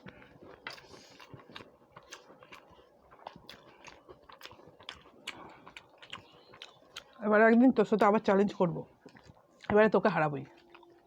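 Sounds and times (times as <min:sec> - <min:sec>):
chewing and biting food: 0:00.0 - 0:11.0.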